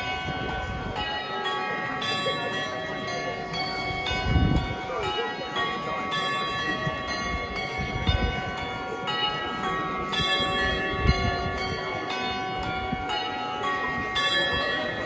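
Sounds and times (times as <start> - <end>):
handbells ringing: 0.0 - 15.0.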